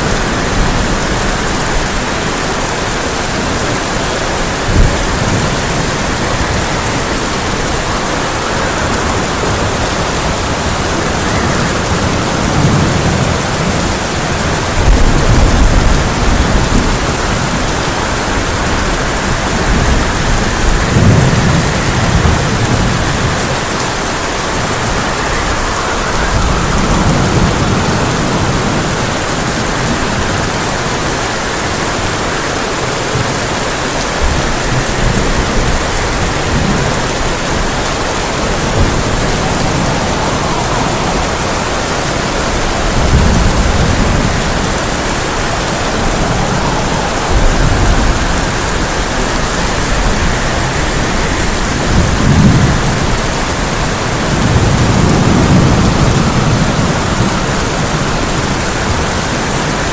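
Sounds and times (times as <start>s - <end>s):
heavy rain on a tin roof: 0.0s - 59.9s
rolling thunder: 0.0s - 59.9s.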